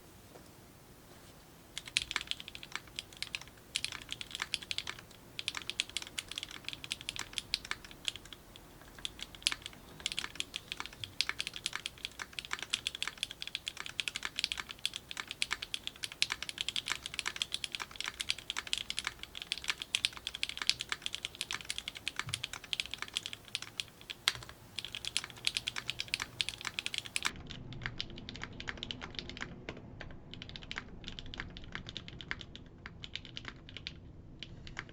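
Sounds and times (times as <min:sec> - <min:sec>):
mechanical keyboard typing: 0:01.8 - 0:34.9.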